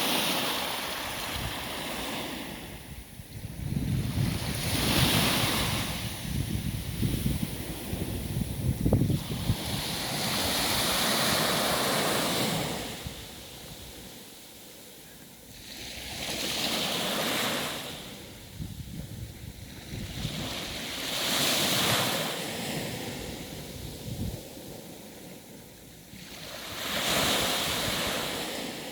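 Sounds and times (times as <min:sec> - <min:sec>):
wind rumbling on microphone: 0:00.0 - 0:14.2, 0:17.8 - 0:25.5, 0:26.2 - 0:28.9
sea waves washing ashore: 0:00.0 - 0:28.9.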